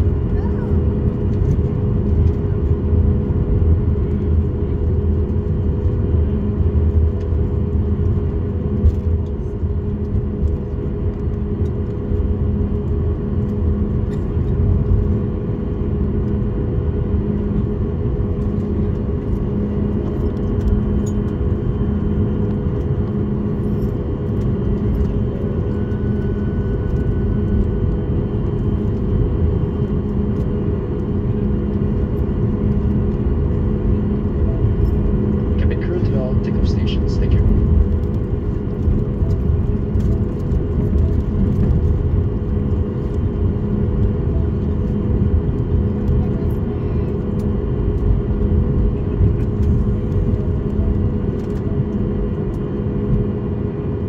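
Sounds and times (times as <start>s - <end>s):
aircraft engines droning: 0.0s - 54.0s.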